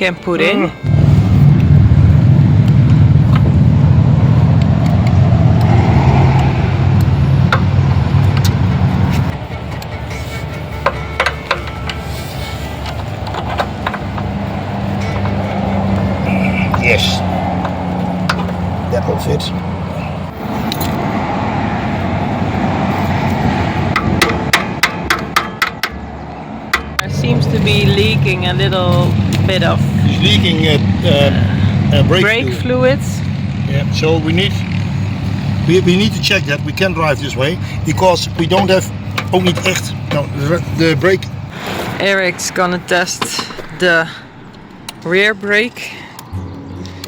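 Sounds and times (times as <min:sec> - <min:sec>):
vehicle engine rumbling: 0:00.0 - 0:47.0.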